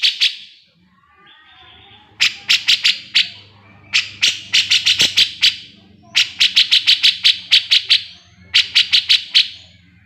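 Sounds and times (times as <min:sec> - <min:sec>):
bulbul singing: 0:01.2 - 0:10.0.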